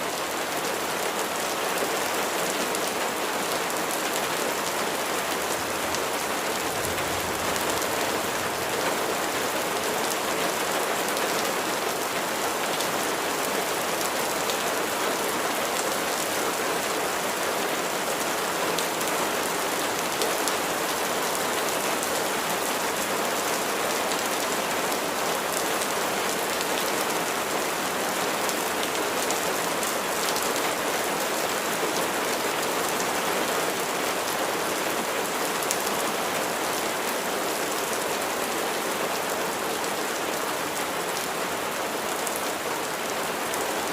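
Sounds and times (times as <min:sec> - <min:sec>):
rain pattering on surfaces: 0:00.1 - 0:43.9.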